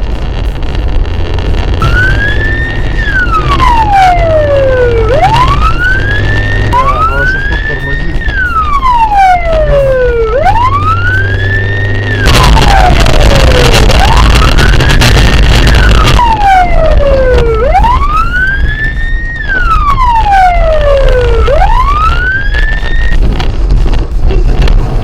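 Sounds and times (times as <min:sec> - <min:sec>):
loud rushing noise: 0:00.0 - 0:25.0
low vehicle rumble: 0:00.0 - 0:25.0
police siren wailing: 0:01.4 - 0:23.9.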